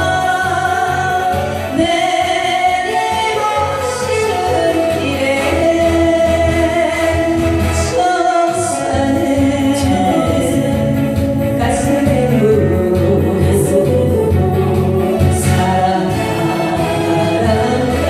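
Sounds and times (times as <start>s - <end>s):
instrumental accompaniment: 0.0s - 18.0s
woman singing: 0.0s - 18.0s.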